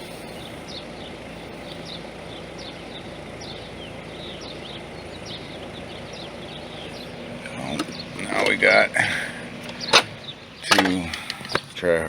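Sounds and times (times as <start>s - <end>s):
birds chirping quickly: 0.0s - 12.0s
low background hum and rush: 0.0s - 12.0s.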